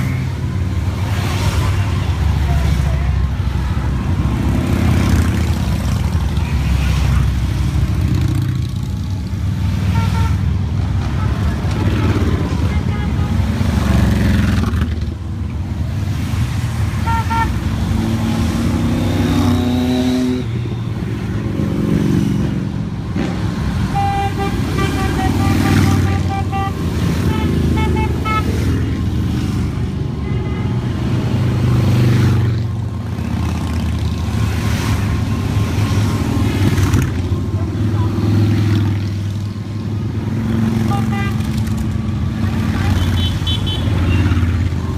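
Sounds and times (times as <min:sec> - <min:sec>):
motorcycles riding past: 0:00.0 - 0:10.0, 0:10.6 - 0:30.2, 0:30.8 - 0:44.9.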